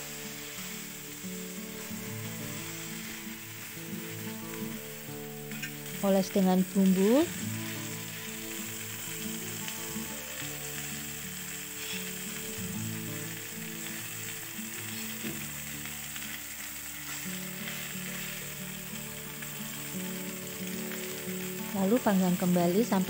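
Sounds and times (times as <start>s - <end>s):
background music: 0.0s - 23.0s
chicken sizzling on a grill pan: 0.0s - 23.0s.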